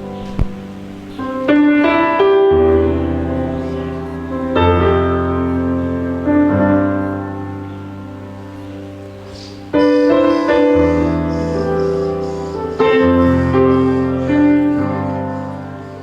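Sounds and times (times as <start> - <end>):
slow soft piano chords: 0.0 - 16.0.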